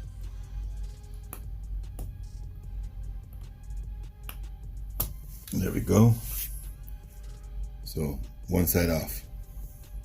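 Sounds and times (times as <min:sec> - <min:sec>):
music with deep bass: 0:00.0 - 0:10.0.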